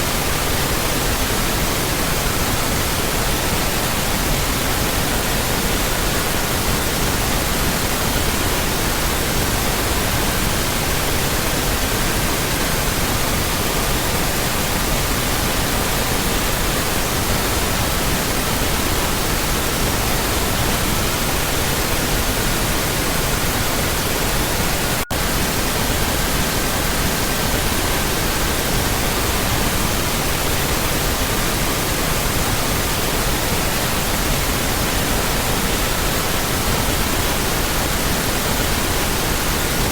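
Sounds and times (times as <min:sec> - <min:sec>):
pink noise: 0:00.0 - 0:39.9.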